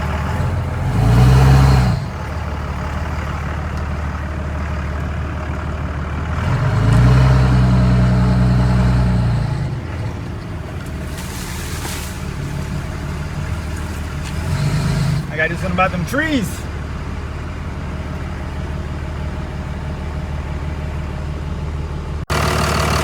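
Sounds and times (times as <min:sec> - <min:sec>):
diesel truck engine from inside cab: 0:00.0 - 0:23.0.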